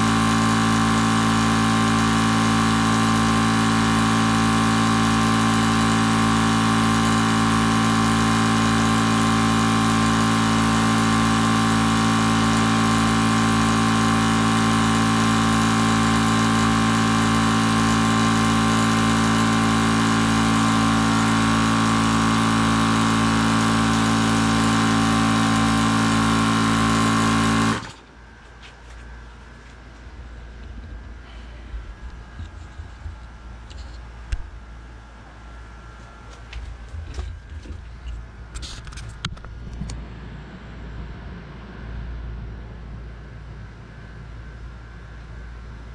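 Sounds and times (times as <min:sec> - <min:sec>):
air compressor humming: 0:00.0 - 0:45.9.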